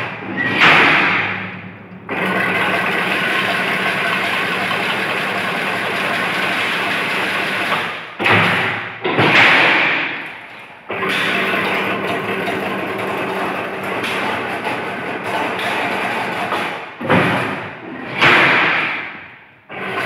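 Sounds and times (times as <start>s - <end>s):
machine running with mechanical din: 0.0s - 20.0s.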